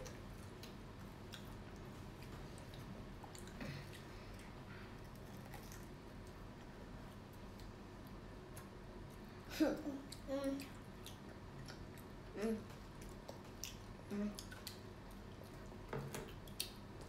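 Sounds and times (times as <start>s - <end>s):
quiet chewing and biting: 0.0s - 9.3s, 10.0s - 17.0s.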